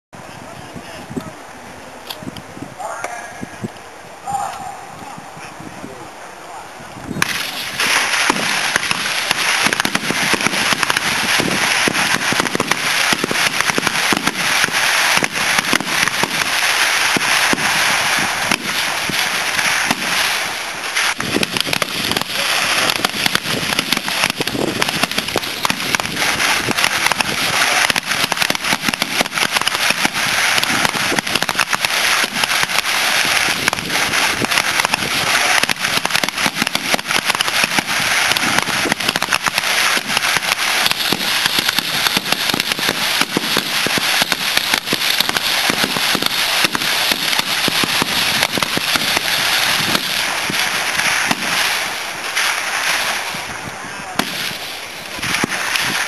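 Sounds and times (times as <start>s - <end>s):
rifle fire crackle: 7.1s - 56.0s.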